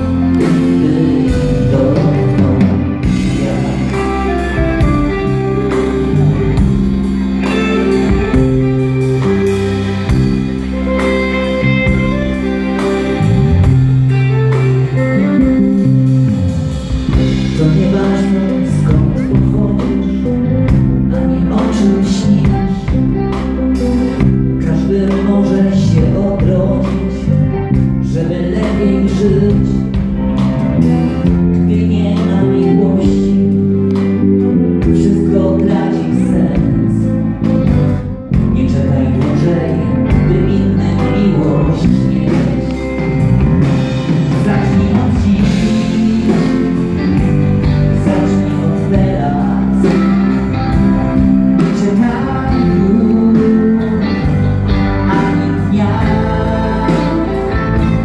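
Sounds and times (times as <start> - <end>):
live pop rock band: 0.0 - 58.0
man singing: 0.0 - 58.0.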